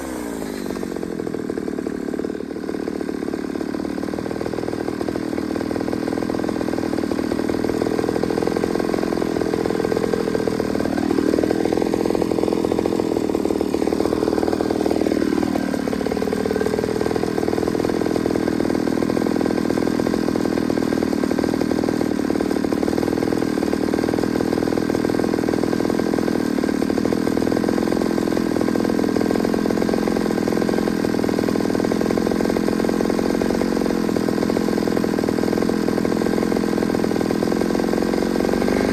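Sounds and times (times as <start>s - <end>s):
chainsaw running hard: 0.0s - 38.9s.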